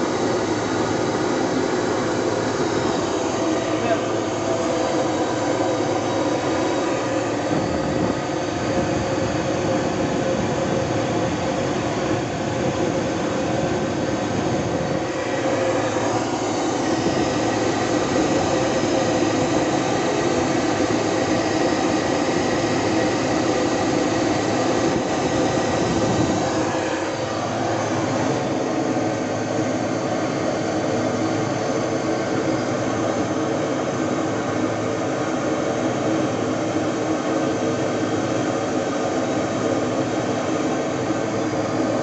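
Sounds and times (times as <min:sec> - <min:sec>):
diesel engine running: 0:00.0 - 0:42.0
thin high whine: 0:00.0 - 0:42.0.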